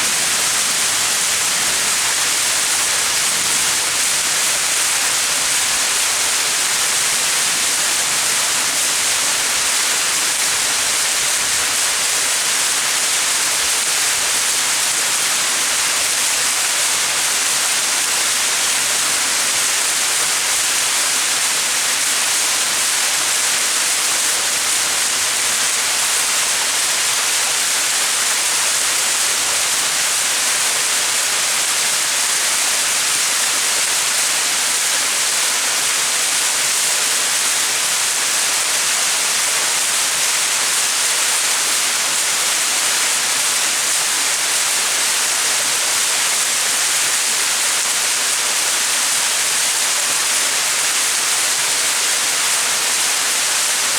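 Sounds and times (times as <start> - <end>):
waterfall splashing: 0.0 - 53.9.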